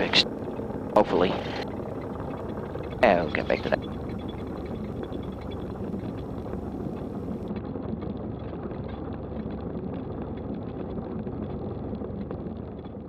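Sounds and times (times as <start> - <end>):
aircraft engine in cockpit: 0.0 - 13.0.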